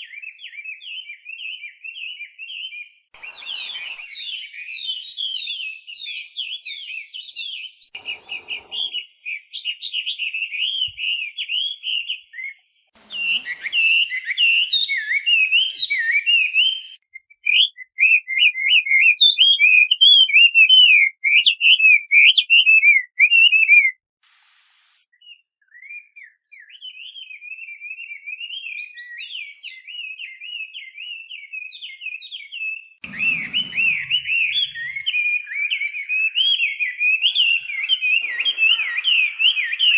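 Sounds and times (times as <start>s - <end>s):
bird singing whistled phrases: 0.0s - 24.0s, 25.1s - 39.9s.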